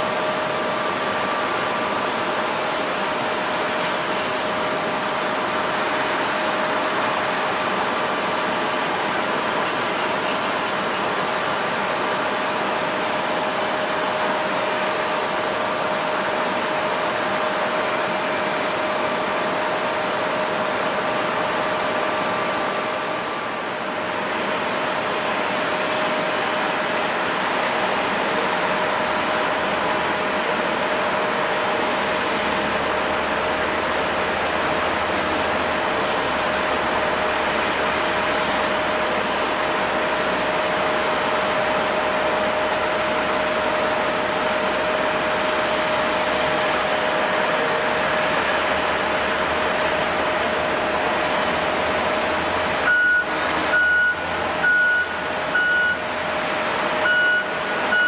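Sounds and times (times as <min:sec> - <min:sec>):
jet engine roar: 0:00.0 - 0:58.0
jet engine whine: 0:00.0 - 0:58.0.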